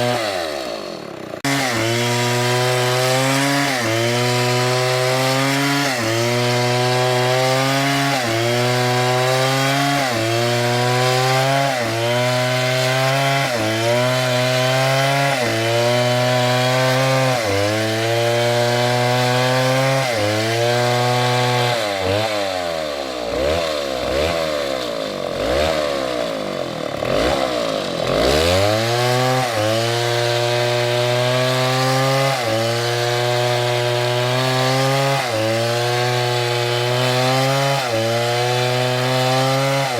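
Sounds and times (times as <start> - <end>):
chainsaw cutting at high revs: 0.0 - 39.9.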